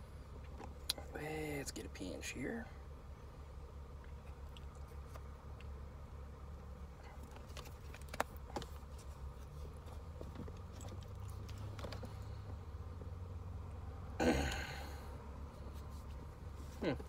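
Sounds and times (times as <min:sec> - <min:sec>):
low hum inside car: 0:00.0 - 0:17.0.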